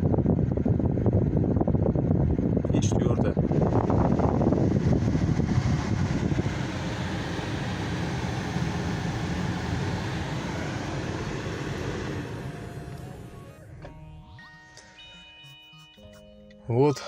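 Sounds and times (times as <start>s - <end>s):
heater blower fan rushing air: 0.0s - 13.8s.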